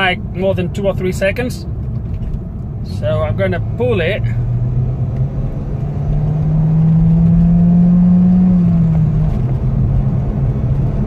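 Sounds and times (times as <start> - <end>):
car engine accelerating: 1.7 - 11.0.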